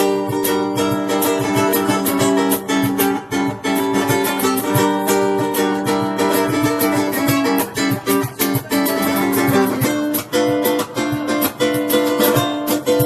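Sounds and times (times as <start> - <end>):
ukuleles strumming chords: 0.0 - 13.0.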